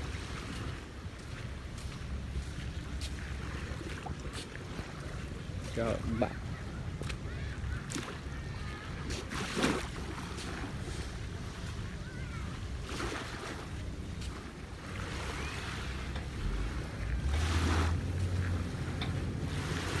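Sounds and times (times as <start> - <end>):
waves lapping on beach: 0.0 - 20.0.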